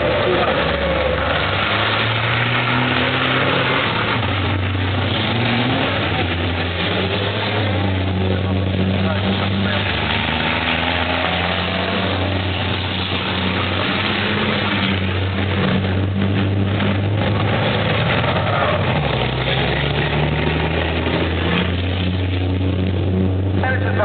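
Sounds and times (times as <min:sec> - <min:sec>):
diesel truck engines racing: 0:00.0 - 0:24.0.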